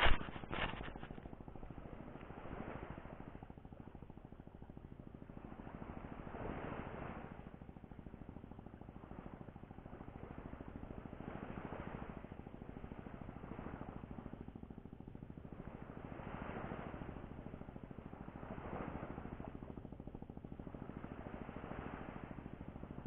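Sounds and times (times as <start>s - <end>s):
low fast flutter: 0.0s - 12.2s, 15.4s - 23.0s.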